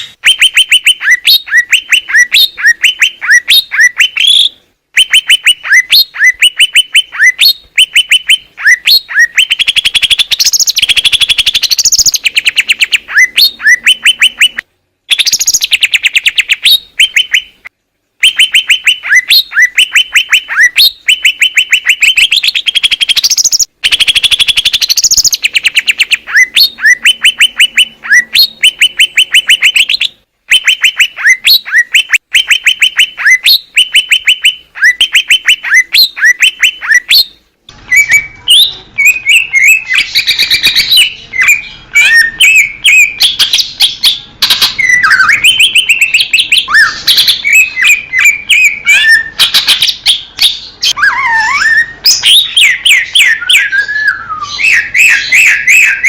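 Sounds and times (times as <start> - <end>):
bird singing trills and whistles: 0.0 - 56.0.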